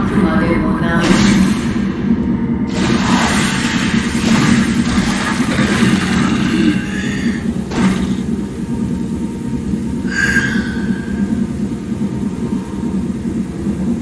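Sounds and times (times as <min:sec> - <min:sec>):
low soundtrack rumble: 0:00.0 - 0:14.0.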